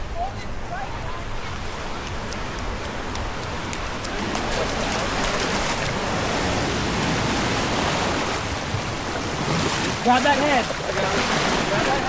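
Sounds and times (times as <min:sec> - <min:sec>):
ocean surf washing up beach: 0:00.0 - 0:12.0.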